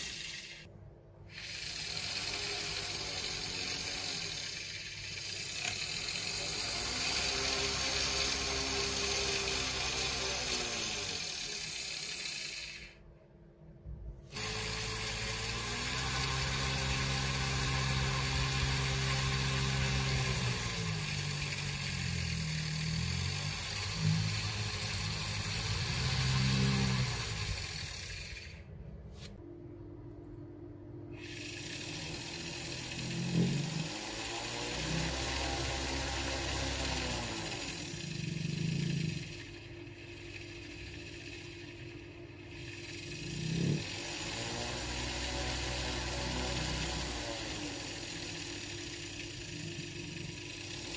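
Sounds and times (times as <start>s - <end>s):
small motors whirring: 0.0s - 13.0s, 14.3s - 29.4s, 31.1s - 50.9s.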